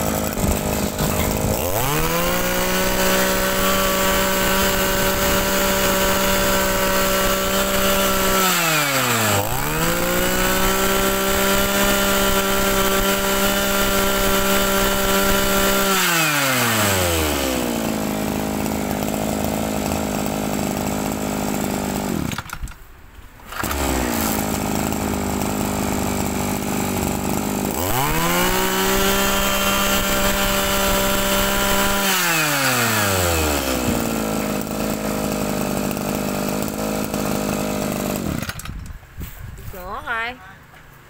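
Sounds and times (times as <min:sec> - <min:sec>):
brush cutter engine running: 0:00.0 - 0:40.4.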